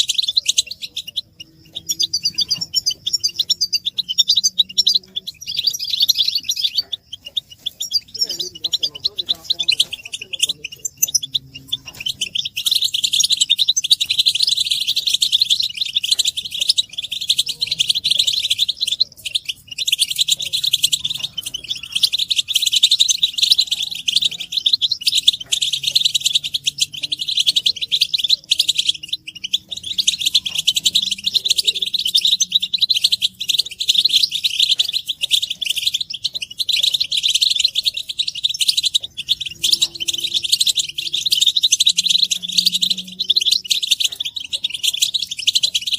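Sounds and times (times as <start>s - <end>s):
goldfinches twittering and singing: 0.0s - 45.9s.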